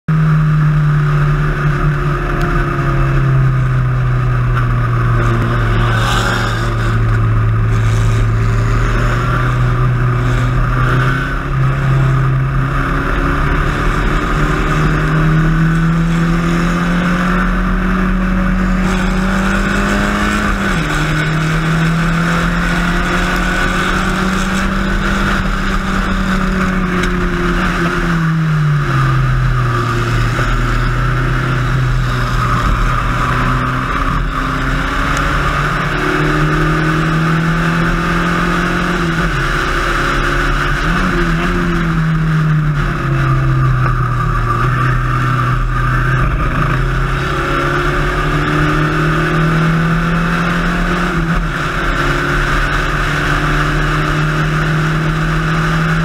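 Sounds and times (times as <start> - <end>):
race car engine running hard: 0.1 - 56.0
wind and road noise: 0.1 - 56.0.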